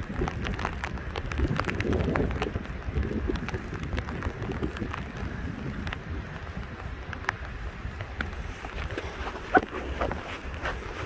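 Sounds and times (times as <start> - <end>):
raindrops ticking on camera: 0.0 - 11.0
wind buffeting microphone: 0.0 - 11.0.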